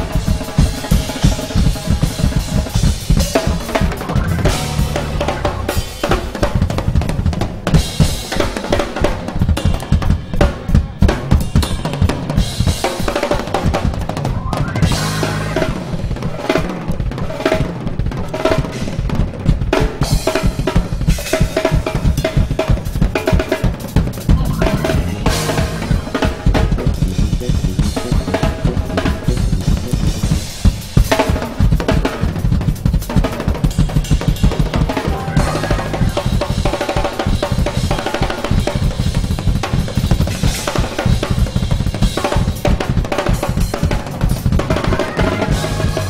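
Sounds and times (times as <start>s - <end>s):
drum kit played fast: 0.0s - 46.0s.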